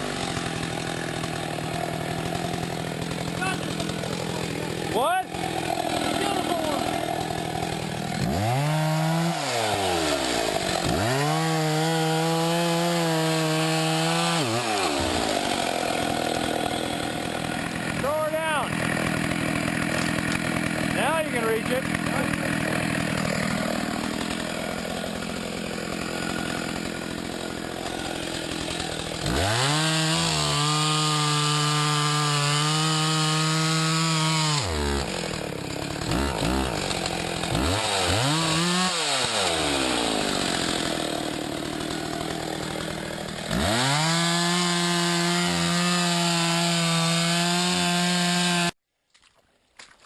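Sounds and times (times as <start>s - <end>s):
chainsaw revving: 0.0s - 48.8s.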